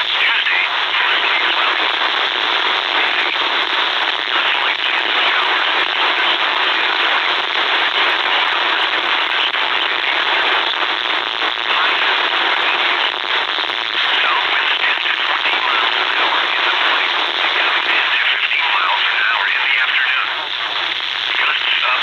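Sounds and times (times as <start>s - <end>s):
radio static hiss with crackles: 0.0s - 22.0s.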